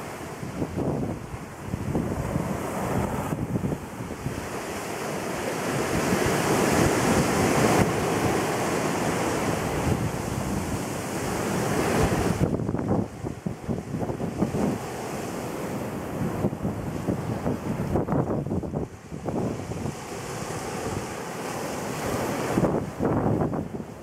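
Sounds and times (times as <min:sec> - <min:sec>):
ocean surf breaking on beach: 0:00.0 - 0:24.0
wind buffeting microphone: 0:00.0 - 0:24.0.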